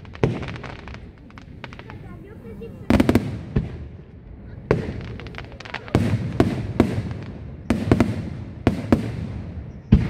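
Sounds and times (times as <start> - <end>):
echoing rumble: 0.0 - 10.0
firework shells bursting: 0.0 - 10.0.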